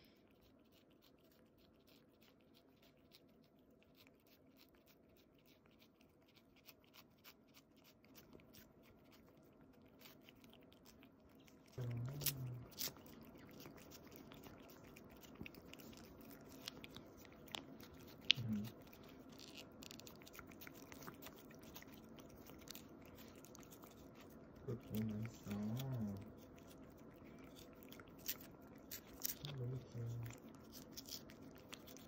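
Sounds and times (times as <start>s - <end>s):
cat licking and smacking: 0.0s - 32.0s.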